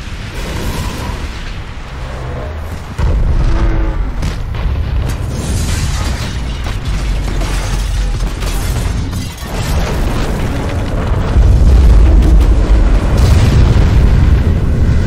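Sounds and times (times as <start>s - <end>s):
crackling debris: 0.0s - 15.0s
deep rumbling explosion: 0.0s - 15.0s.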